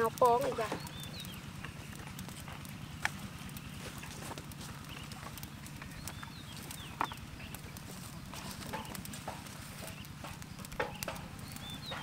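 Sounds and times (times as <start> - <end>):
steady low hum: 0.0 - 12.0
bird chirping: 0.1 - 9.0, 9.6 - 12.0.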